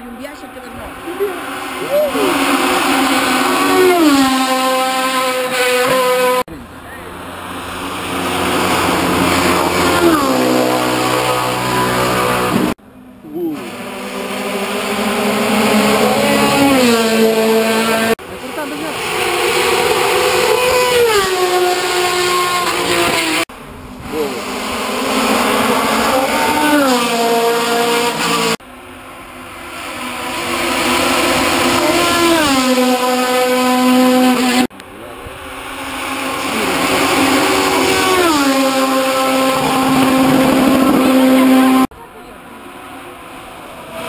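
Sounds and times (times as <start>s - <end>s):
race cars driving past: 0.0s - 44.0s.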